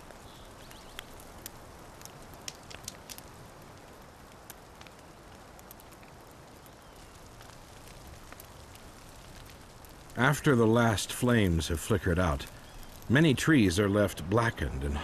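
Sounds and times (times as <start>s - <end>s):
outdoor ambience hiss: 0.0s - 15.0s
small crackles and clicks: 0.0s - 15.0s.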